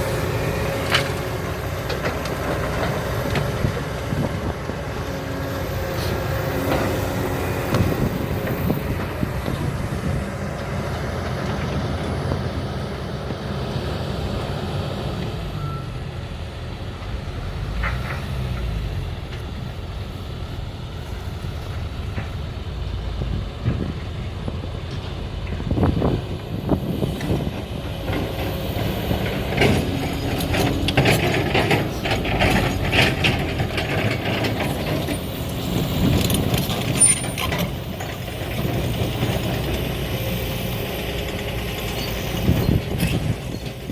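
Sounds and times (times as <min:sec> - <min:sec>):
diesel engines running: 0:00.0 - 0:43.9.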